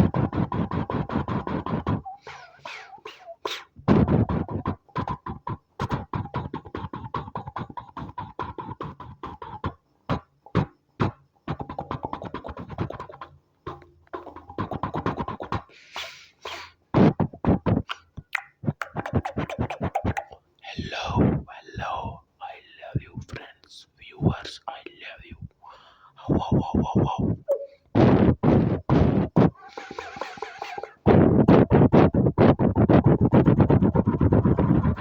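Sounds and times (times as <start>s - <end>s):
beatboxing clicks and pops: 0.0s - 22.2s, 22.9s - 24.4s, 26.2s - 35.0s.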